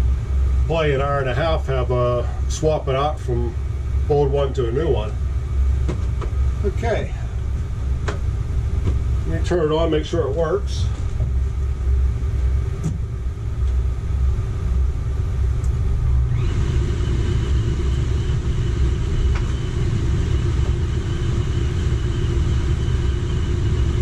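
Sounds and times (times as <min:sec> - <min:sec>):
air conditioner low rumble: 0:00.0 - 0:24.0
compressor high whine: 0:00.0 - 0:24.0.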